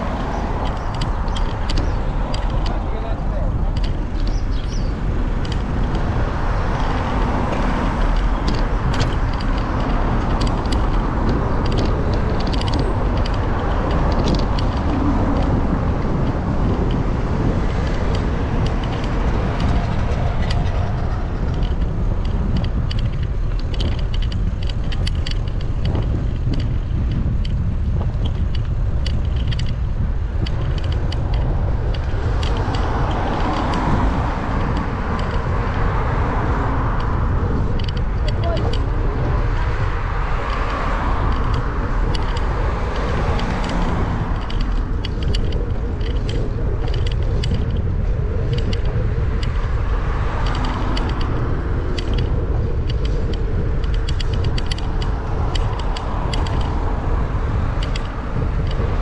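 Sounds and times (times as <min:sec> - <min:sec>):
light clicks and rattles: 0:00.0 - 0:59.0
wind rumble on microphone: 0:00.0 - 0:59.0.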